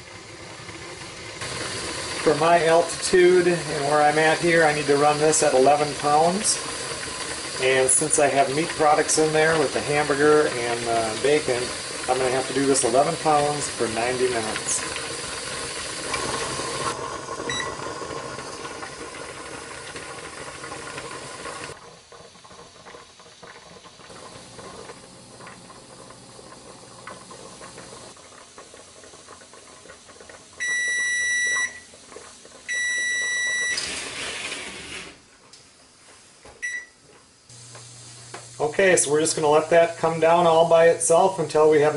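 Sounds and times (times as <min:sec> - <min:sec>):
steam hissing from pressure canner: 0:00.0 - 0:35.3, 0:37.5 - 0:41.9.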